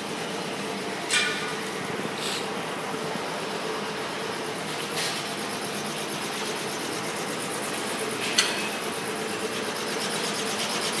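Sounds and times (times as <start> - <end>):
workshop machinery humming: 0.0 - 11.0.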